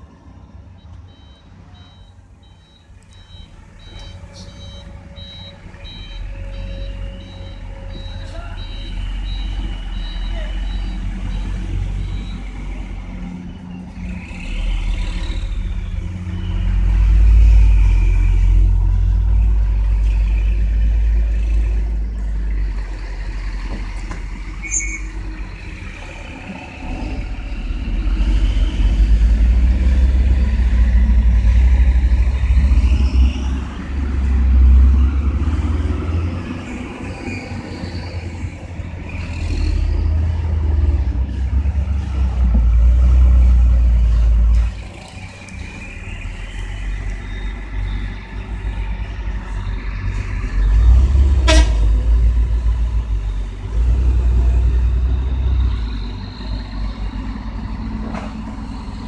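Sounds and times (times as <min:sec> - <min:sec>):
truck diesel engine rumble: 0:00.0 - 0:59.0.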